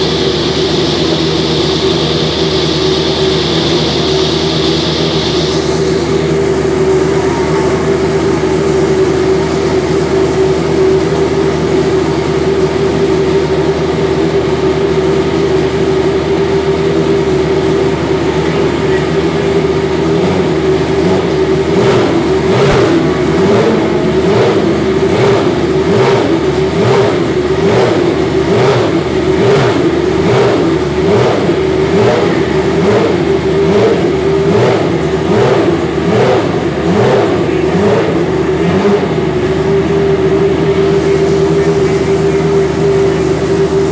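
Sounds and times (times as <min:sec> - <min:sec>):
racing car engine revving: 0:00.0 - 0:43.9.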